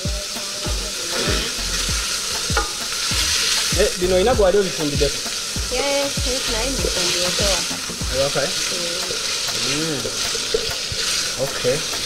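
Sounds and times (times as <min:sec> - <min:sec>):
meat and potatoes sizzling: 0:00.0 - 0:12.0.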